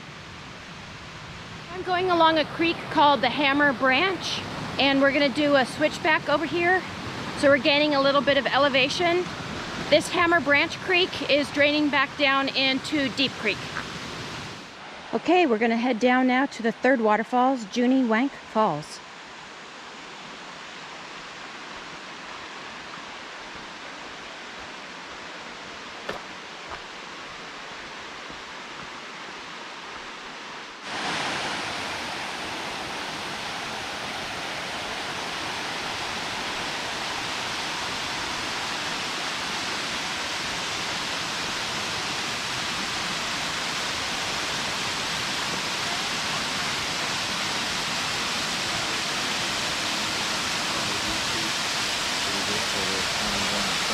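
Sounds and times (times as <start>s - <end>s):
rushing creek and waterfall: 0.0s - 53.9s.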